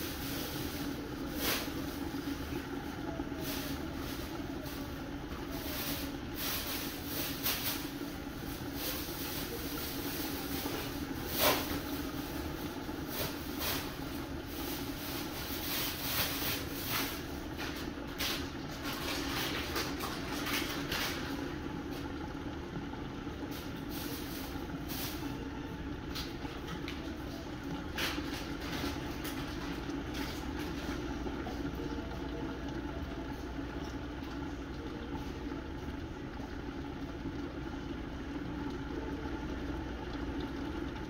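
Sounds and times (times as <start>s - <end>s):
curry bubbling in covered pan: 0.0s - 41.0s
steady low hum: 0.0s - 41.0s.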